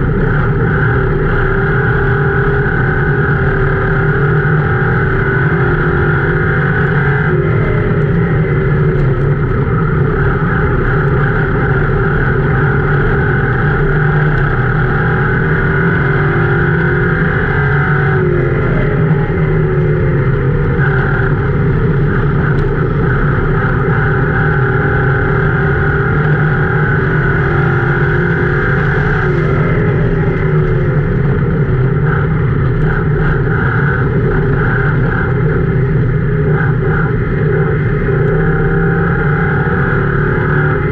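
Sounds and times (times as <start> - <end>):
race car engine running hard: 0.0 - 40.9
road and dirt noise roar: 0.0 - 40.9.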